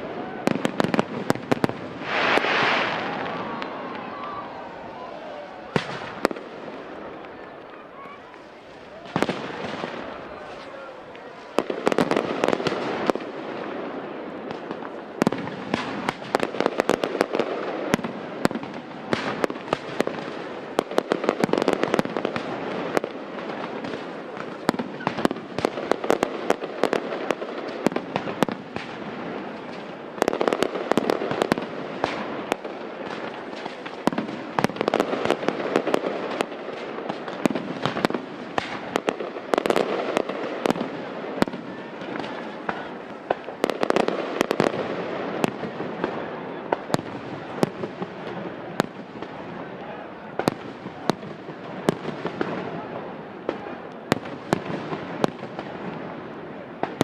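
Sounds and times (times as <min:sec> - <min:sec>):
firework bursts and bangs: 0:00.0 - 0:57.0
fireworks crackling: 0:00.0 - 0:57.0.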